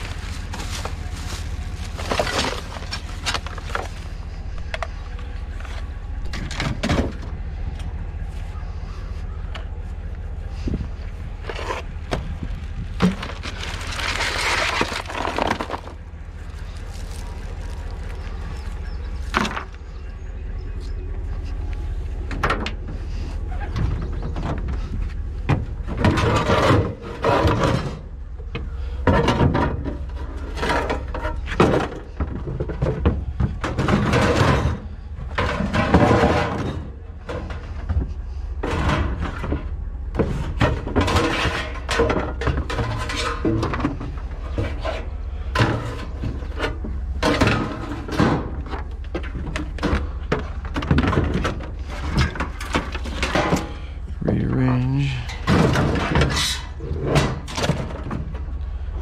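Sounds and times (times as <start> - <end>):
junk thunking and clattering: 0.0 - 20.2, 21.2 - 59.0
low rumble: 0.0 - 59.0.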